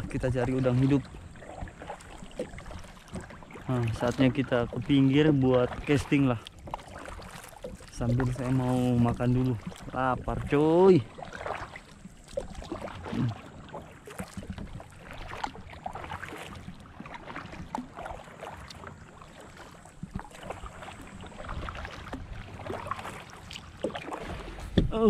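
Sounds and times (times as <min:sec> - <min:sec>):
kayak paddle splashing in water: 0:00.0 - 0:25.0.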